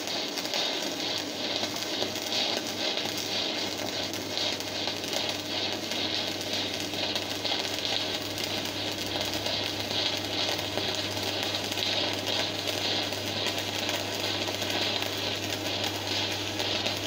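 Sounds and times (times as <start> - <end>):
welding arc crackling: 0.0 - 17.0.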